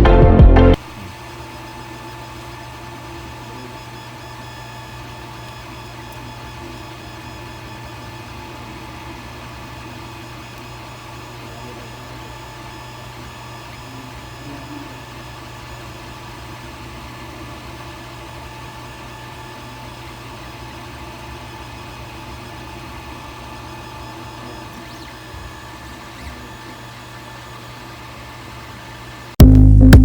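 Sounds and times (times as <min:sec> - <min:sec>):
constant whining tones: 0:00.7 - 0:30.0
printer fans and motors humming: 0:00.8 - 0:29.4.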